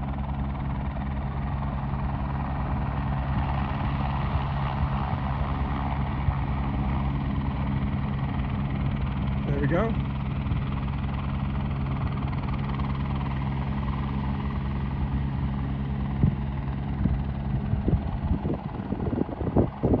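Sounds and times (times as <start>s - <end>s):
helicopter drone: 0.0s - 20.0s.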